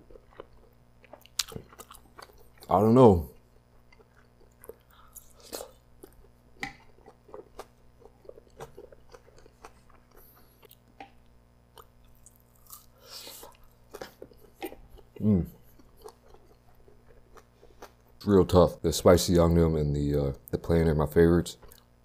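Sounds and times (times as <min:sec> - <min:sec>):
chewing with wet mouth clicks: 0:00.0 - 0:02.7, 0:03.4 - 0:18.2, 0:21.6 - 0:21.9.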